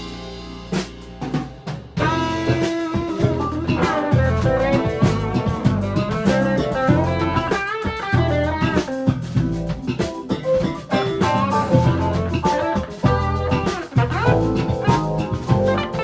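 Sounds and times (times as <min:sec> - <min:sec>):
band playing instrumental: 0:00.0 - 0:16.0
guitar melody: 0:00.0 - 0:16.0.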